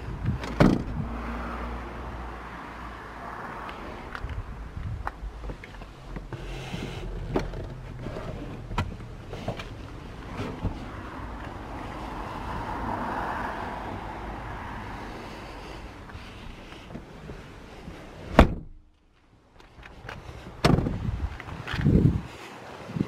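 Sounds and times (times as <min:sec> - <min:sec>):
car interior background noise: 0:00.0 - 0:23.0.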